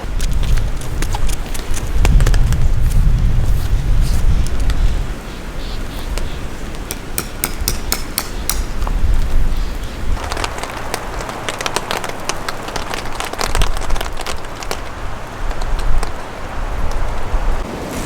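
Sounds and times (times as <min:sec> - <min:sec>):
rain pattering: 0:00.0 - 0:18.0
wind rumbling on microphone: 0:00.0 - 0:18.0.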